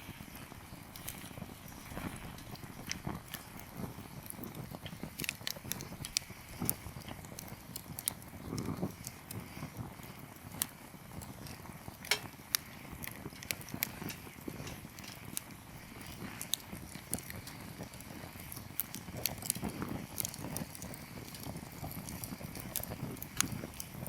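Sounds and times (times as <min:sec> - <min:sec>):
firewood popping: 0:00.0 - 0:24.0
low rumble of fire: 0:00.0 - 0:24.0.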